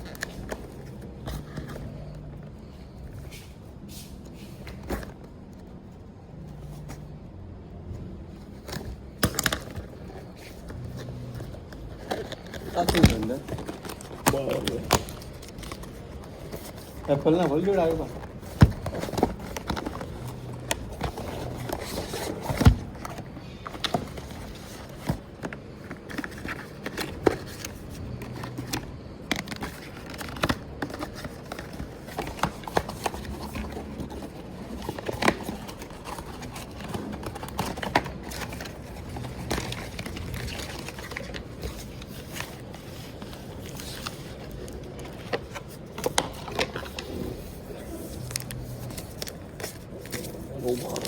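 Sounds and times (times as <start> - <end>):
handling noise of device: 0.0 - 7.2, 8.0 - 51.0.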